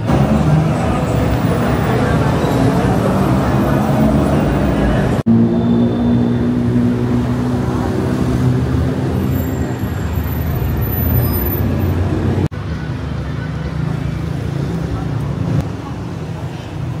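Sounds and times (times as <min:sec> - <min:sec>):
vehicle engine humming: 0:00.0 - 0:16.1
road noise: 0:00.0 - 0:17.0.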